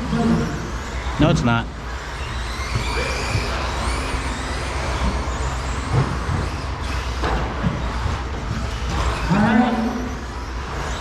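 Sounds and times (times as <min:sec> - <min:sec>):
electric motors whining: 0:00.0 - 0:11.0
rumble of track noise: 0:00.0 - 0:11.0.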